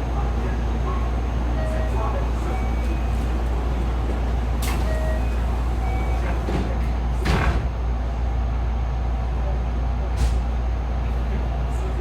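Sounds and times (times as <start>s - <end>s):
train cabin low hum: 0.0s - 12.0s.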